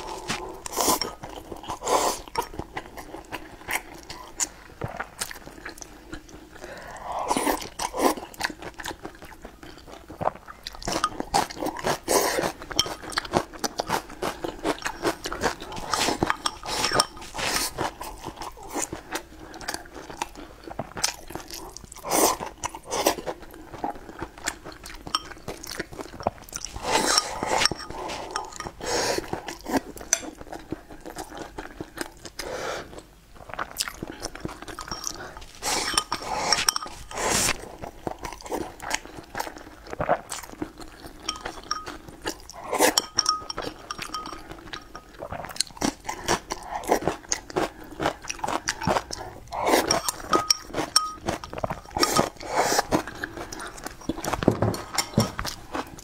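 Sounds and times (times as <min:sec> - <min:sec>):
chewing and biting: 0:07.5 - 0:56.0.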